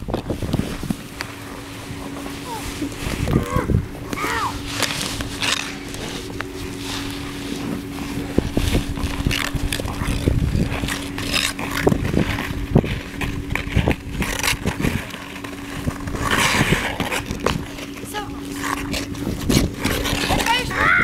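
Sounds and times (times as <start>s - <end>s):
steady low hum: 0.0s - 21.0s
wind buffeting microphone: 0.0s - 21.0s.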